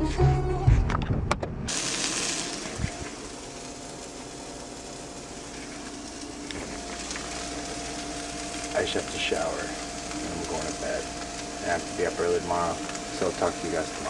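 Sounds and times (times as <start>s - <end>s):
steady hiss: 1.7s - 14.0s
faint hum: 1.8s - 14.0s.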